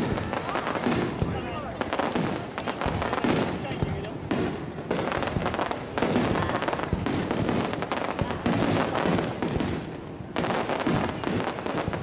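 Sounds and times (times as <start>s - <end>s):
fireworks crackling: 0.0s - 12.0s
heavy firework booms: 0.0s - 12.0s.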